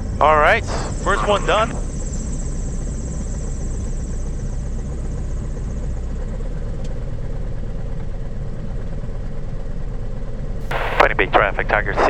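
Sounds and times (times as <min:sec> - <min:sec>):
aircraft engine running: 0:00.0 - 0:12.0.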